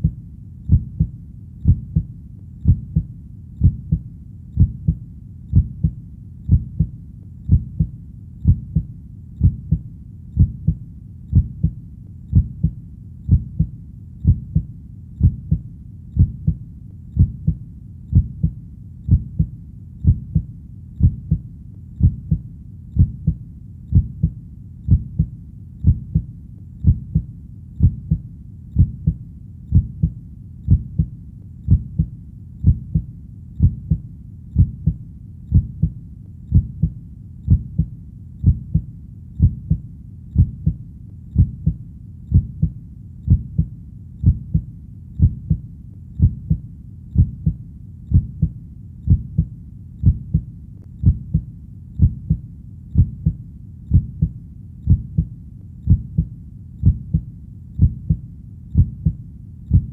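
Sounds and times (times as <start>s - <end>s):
heartbeat double thump: 0.0s - 4.0s, 4.6s - 6.9s, 7.5s - 9.8s, 10.4s - 15.6s, 16.2s - 16.6s, 17.2s - 21.4s, 22.0s - 22.4s, 23.0s - 28.2s, 28.8s - 31.1s, 31.7s - 34.0s, 34.6s - 39.8s, 40.4s - 40.8s, 41.4s - 45.6s, 46.2s - 46.6s, 47.2s - 52.4s, 53.0s - 55.3s, 55.9s - 58.2s, 58.8s - 59.9s.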